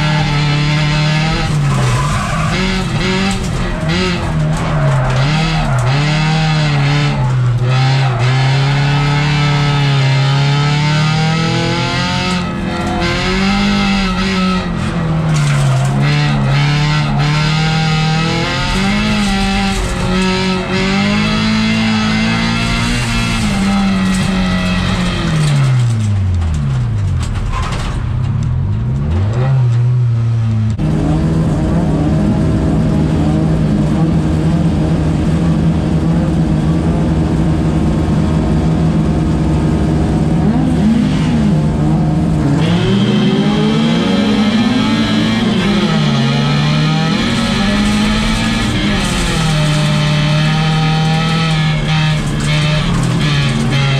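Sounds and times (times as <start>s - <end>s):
race car engine revving: 0.0s - 27.6s, 28.8s - 53.9s.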